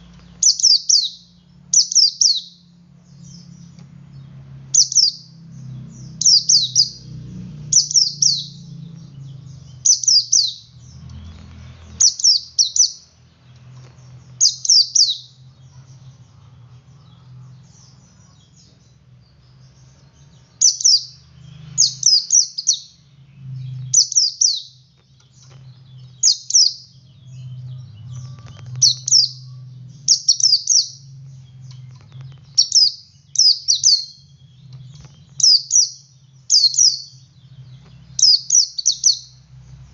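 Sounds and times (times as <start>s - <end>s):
bird twittering song: 0.0s - 39.9s
low hum: 0.0s - 39.9s.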